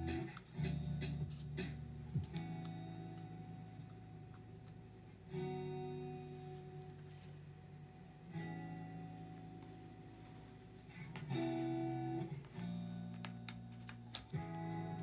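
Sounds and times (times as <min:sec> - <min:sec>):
guitar chords ringing: 0:00.0 - 0:15.0.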